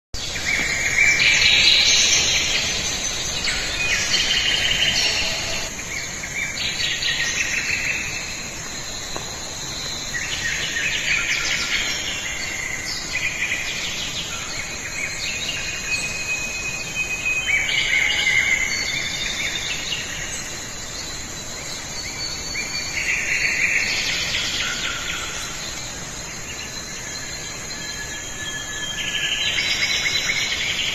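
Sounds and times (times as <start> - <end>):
birds calling and trilling: 0.2 - 30.9.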